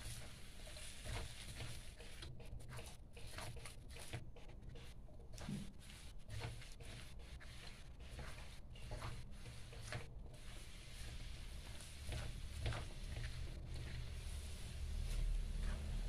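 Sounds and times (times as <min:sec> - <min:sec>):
spatula scraping a wok: 0:00.0 - 0:16.0.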